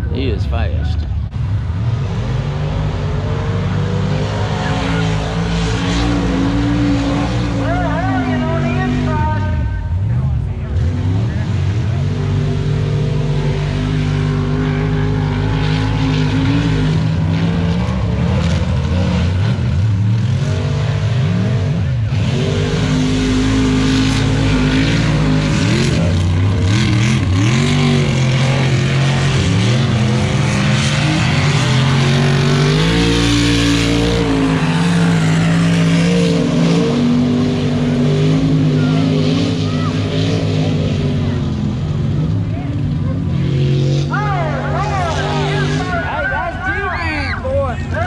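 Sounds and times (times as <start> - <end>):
truck engines revving hard: 0.0 - 48.0.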